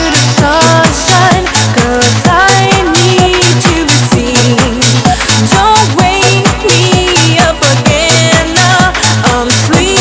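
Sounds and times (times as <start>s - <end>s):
electronic dance-pop music: 0.0s - 10.0s.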